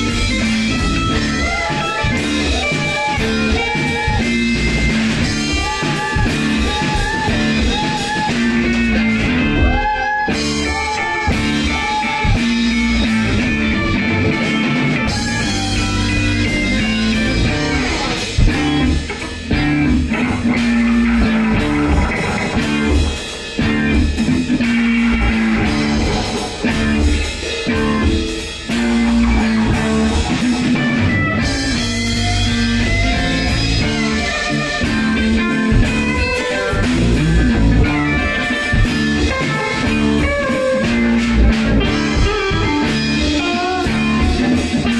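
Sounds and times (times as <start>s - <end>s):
bass guitar: 0.0s - 44.9s
electric guitar: 0.0s - 44.9s.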